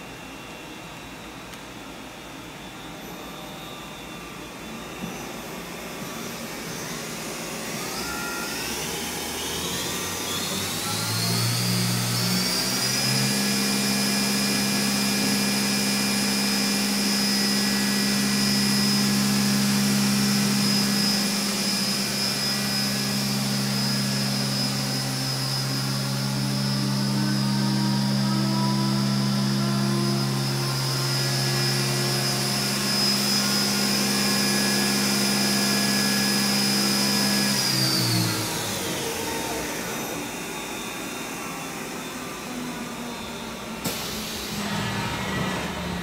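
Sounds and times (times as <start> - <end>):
machine spindle whine: 0.0 - 46.0.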